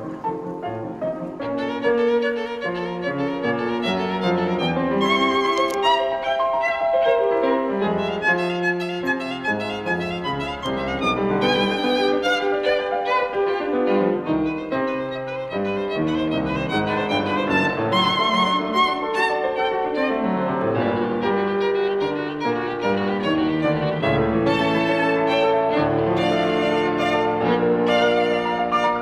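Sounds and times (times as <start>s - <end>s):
violin melody with vibrato: 0.0s - 29.0s.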